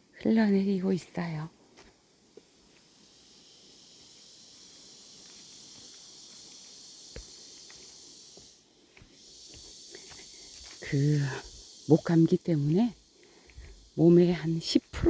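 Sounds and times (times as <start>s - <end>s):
high-pitched insect chorus: 0.0s - 15.0s
light footsteps on trail: 0.0s - 15.0s.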